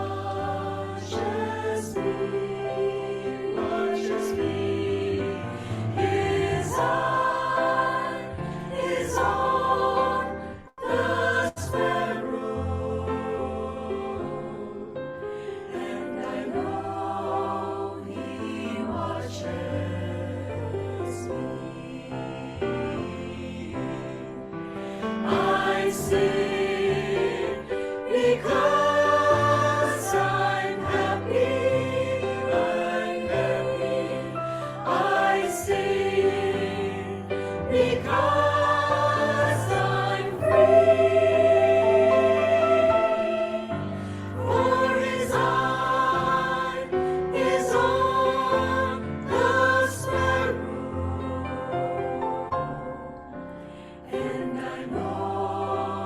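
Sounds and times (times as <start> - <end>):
choir singing held notes: 0.0 - 52.8, 53.7 - 56.0.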